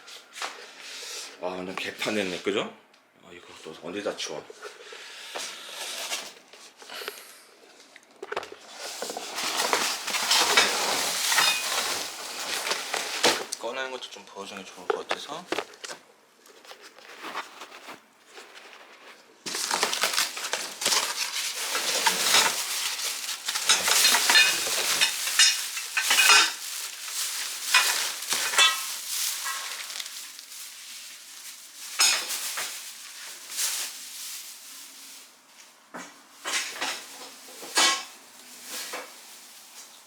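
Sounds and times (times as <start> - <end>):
packaging rustling and crinkling: 5.4 - 6.8, 8.0 - 40.0.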